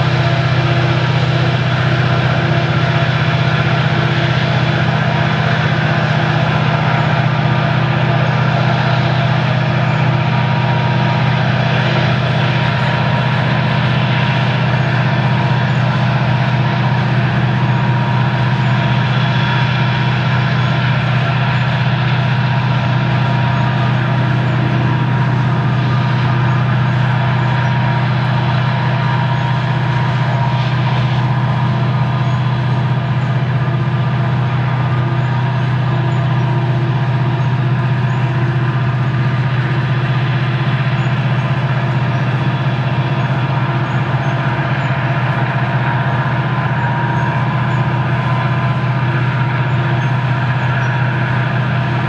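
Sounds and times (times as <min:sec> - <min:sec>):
locomotive engine drone: 0:00.0 - 0:52.0
steady higher tones: 0:00.0 - 0:52.0.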